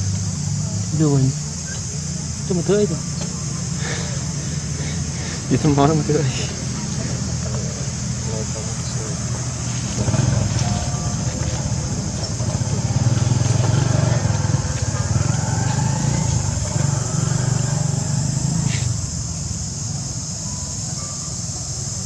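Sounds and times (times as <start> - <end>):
motor engine running: 0.0 - 20.4
high-pitched insect drone: 0.0 - 22.0.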